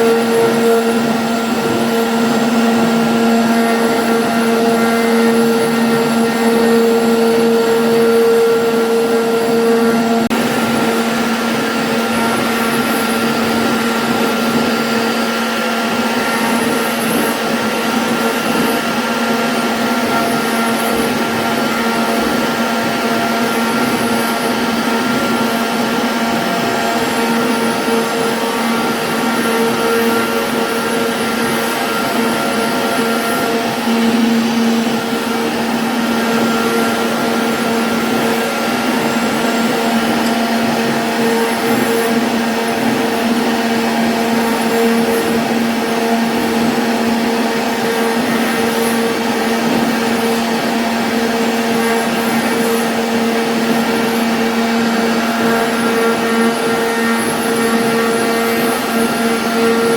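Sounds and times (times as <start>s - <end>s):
router cutting rushing noise: 0.0s - 59.9s
router spindle whine: 0.0s - 59.9s.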